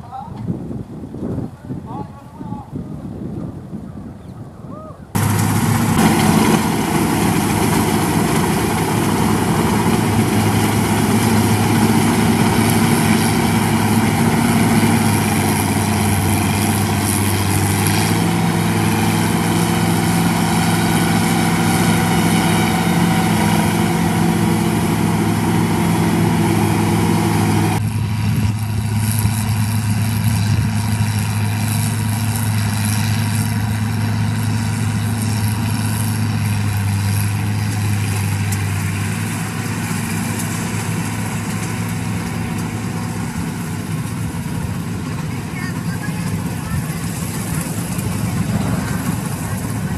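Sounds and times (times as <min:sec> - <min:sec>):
combine harvester running: 0:05.2 - 0:49.9.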